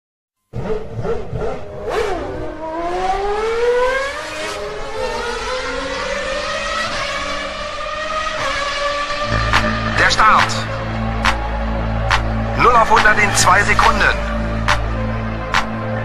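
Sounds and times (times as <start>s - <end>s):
racing engine accelerating: 0.5s - 16.0s.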